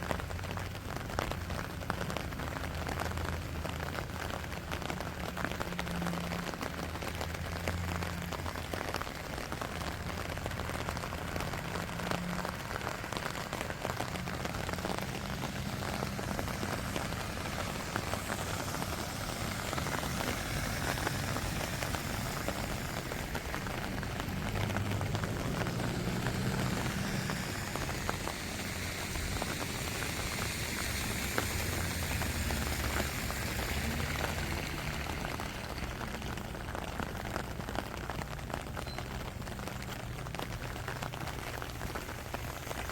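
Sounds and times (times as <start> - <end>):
rain falling steadily: 0.0 - 42.9.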